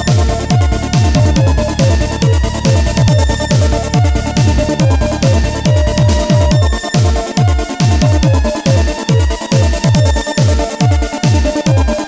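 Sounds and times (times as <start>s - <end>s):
electronic trance music: 0.0s - 12.0s.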